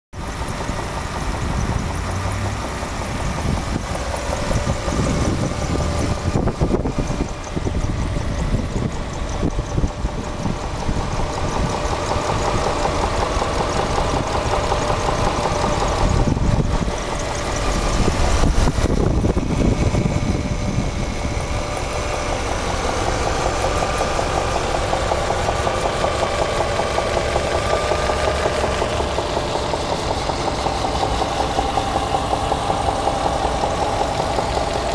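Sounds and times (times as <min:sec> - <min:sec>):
engine idling with knock: 0:00.2 - 0:34.9.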